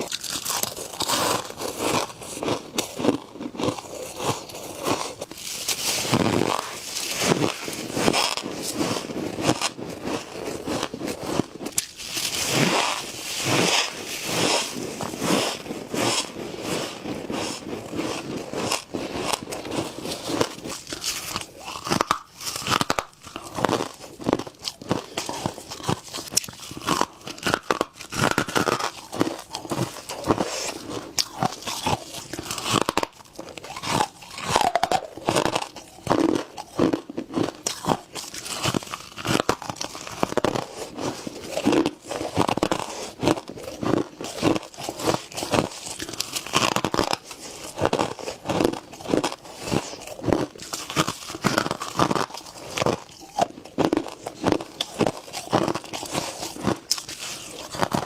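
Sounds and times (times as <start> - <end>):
crisp crunches of chewing frost: 0.0 - 58.0.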